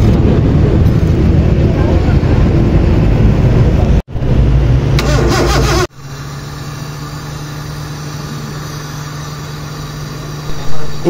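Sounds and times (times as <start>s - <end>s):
petrol engine running: 0.0s - 11.0s.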